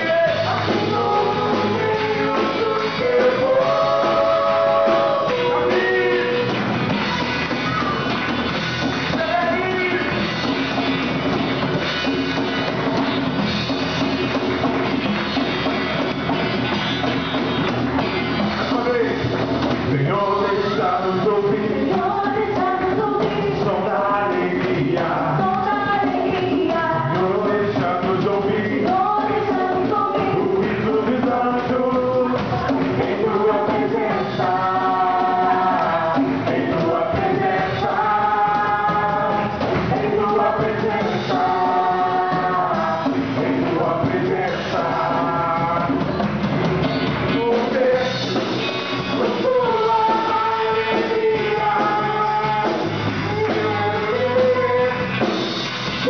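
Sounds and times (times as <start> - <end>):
band playing rock gospel: 0.0 - 56.0.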